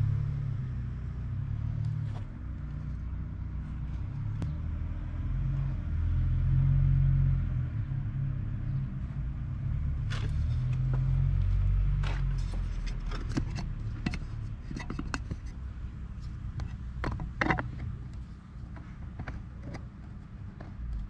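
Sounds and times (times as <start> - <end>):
low uneven rumble: 0.0 - 21.0.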